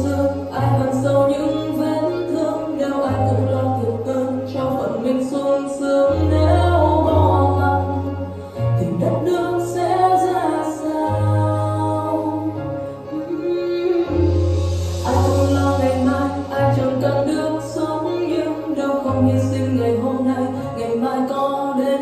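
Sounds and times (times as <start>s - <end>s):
instrumental backing with bass: 0.0s - 22.0s
woman singing: 0.0s - 22.0s.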